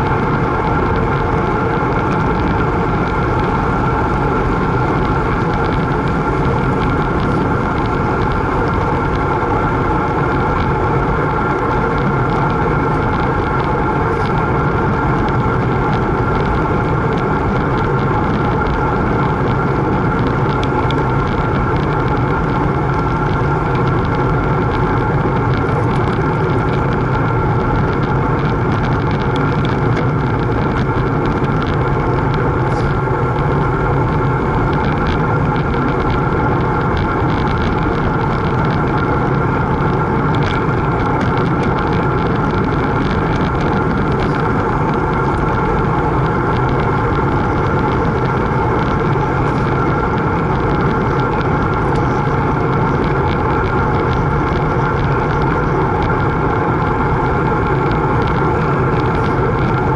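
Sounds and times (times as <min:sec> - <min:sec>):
bicycle road noise on asphalt: 0:00.0 - 0:59.9
wind on microphone: 0:00.0 - 0:59.9.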